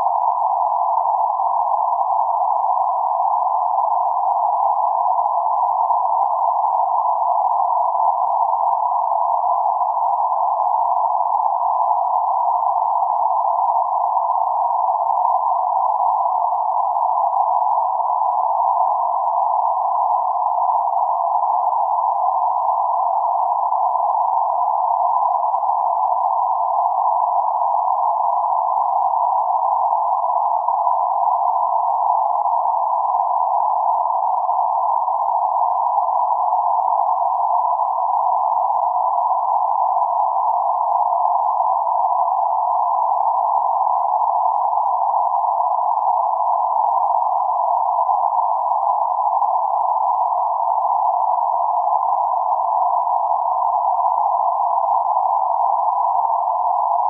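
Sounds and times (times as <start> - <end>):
steady narrow-band synthesized hiss: 0.0 - 57.0.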